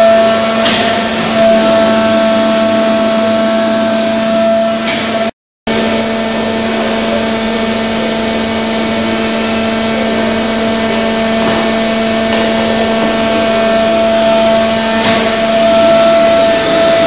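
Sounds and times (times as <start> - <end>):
bending machine humming: 0.0 - 17.0.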